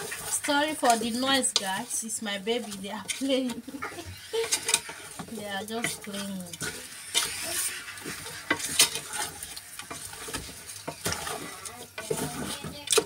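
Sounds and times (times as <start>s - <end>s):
meat sizzling: 0.0s - 13.0s
spoon scraping metal pot: 0.0s - 13.0s.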